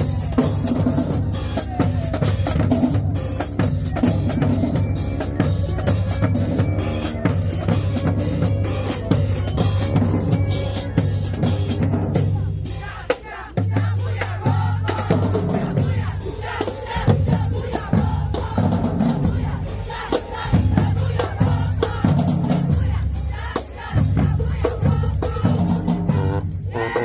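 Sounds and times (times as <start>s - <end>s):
bass and snare drums: 0.0s - 27.0s
noisy crowd: 0.0s - 27.0s.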